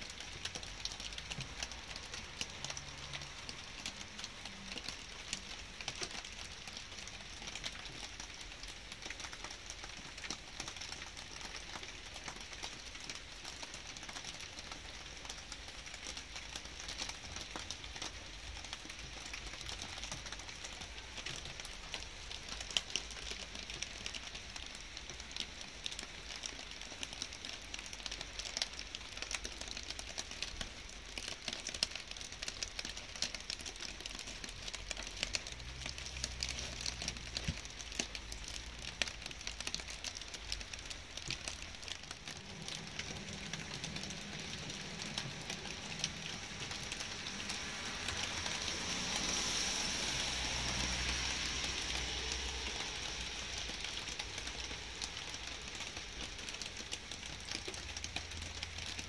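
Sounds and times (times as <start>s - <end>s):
light rain hissing: 0.0s - 59.0s.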